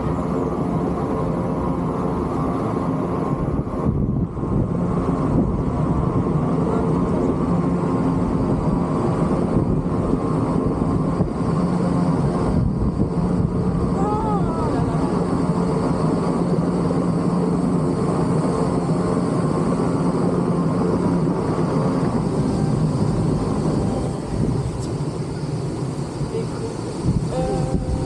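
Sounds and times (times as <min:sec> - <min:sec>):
low rumbling drone: 0:00.0 - 0:28.0.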